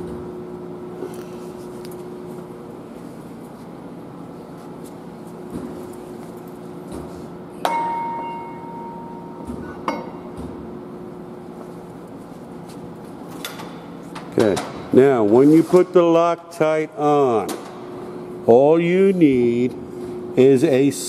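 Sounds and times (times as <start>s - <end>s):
workshop hum: 0.0s - 21.0s.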